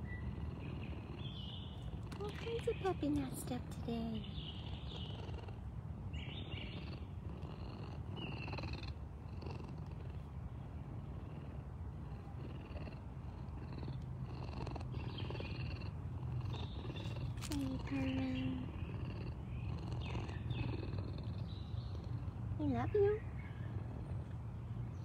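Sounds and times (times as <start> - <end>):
birds chirping: 0.0 - 9.0, 10.0 - 25.0
bobcat purring: 0.0 - 25.0.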